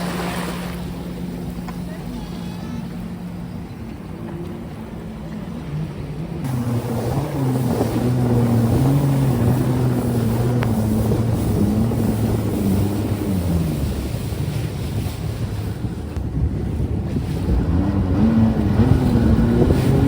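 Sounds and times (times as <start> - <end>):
jet ski engine running: 0.0 - 20.0.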